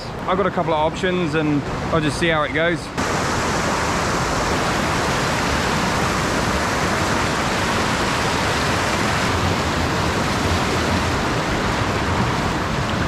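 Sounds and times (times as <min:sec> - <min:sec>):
stream whitewater rushing: 0:00.2 - 0:13.0.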